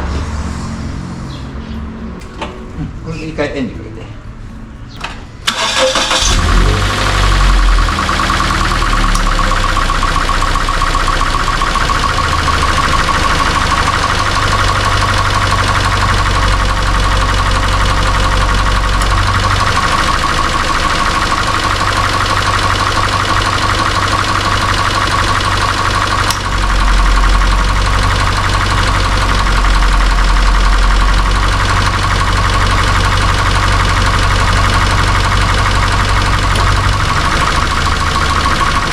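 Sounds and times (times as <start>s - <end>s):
car engine starting and idling: 0.0s - 38.9s.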